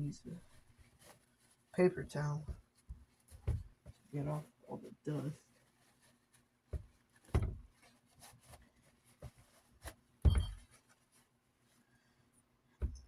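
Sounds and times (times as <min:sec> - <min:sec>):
paper towel rubbing: 0:00.3 - 0:01.9, 0:02.6 - 0:11.8.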